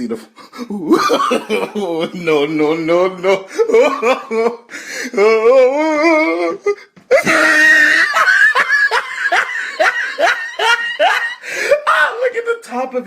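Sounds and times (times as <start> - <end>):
person laughing hard: 0.6 - 12.0.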